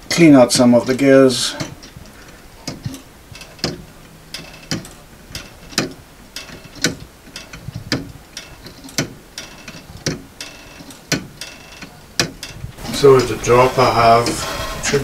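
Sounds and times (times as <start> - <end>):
pendulum clock ticking: 0.0 - 15.0.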